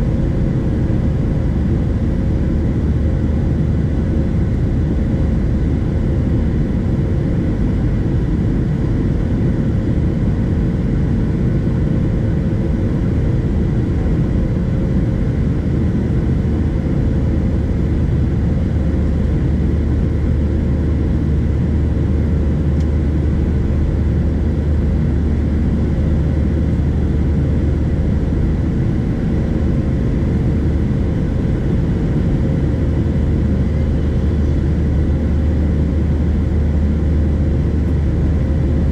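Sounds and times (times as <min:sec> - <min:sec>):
airplane cabin engine drone: 0:00.0 - 0:38.9.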